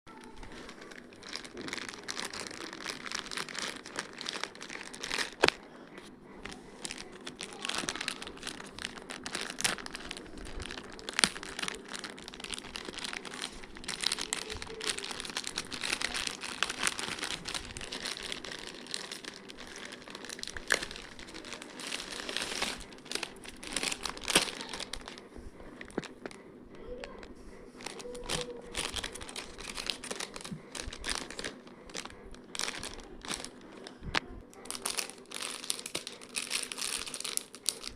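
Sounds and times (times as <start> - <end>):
plastic packaging crinkling: 0.1 - 37.9.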